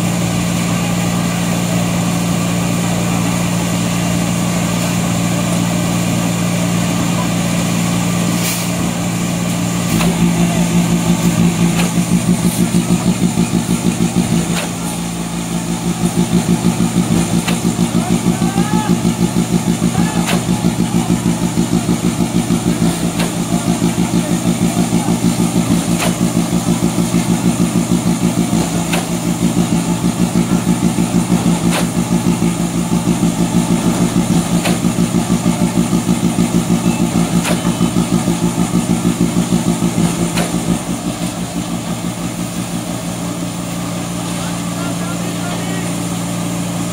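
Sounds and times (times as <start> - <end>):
concrete pump engine throbbing: 0.0 - 46.9.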